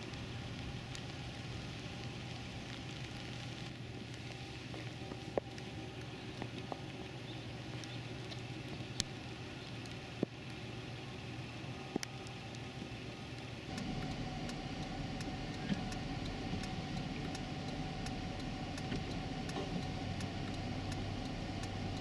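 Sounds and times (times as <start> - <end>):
freezing rain ticking on ice: 0.0 - 22.0
road traffic: 0.0 - 22.0.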